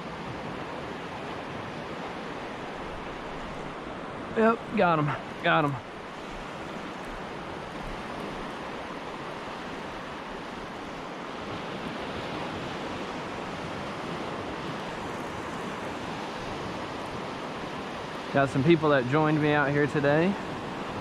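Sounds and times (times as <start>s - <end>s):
waves washing on beach: 0.0s - 21.0s.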